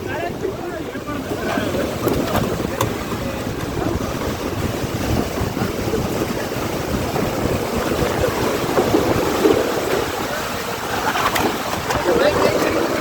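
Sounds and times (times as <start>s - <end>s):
rain: 0.0s - 13.0s
wind gusts buffeting microphone: 0.0s - 13.0s.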